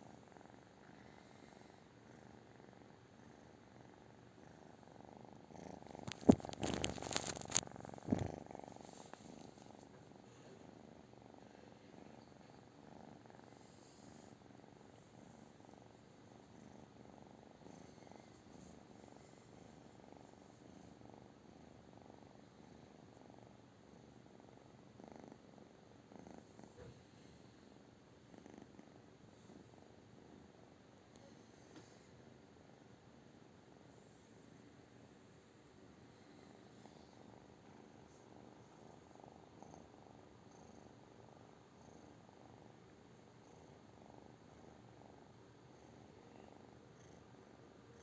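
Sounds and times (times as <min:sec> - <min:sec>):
cat purring: 0:00.0 - 0:48.0.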